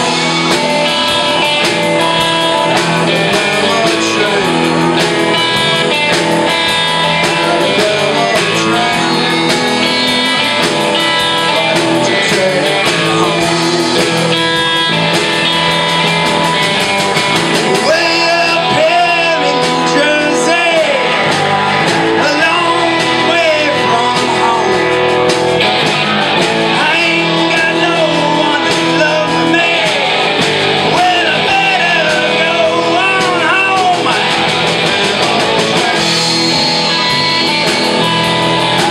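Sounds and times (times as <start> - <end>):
blues-rock band playing: 0.0 - 38.9
lead guitar bending notes: 0.0 - 38.9.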